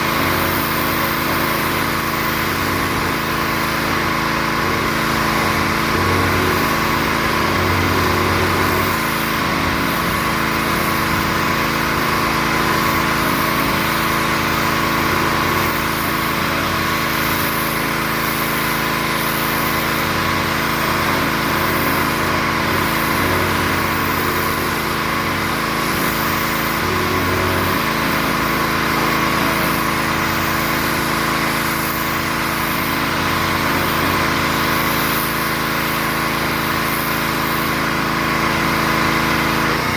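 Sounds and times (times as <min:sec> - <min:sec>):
pressure washer engine running: 0:00.0 - 0:39.9
pressure washer hiss: 0:00.0 - 0:39.9.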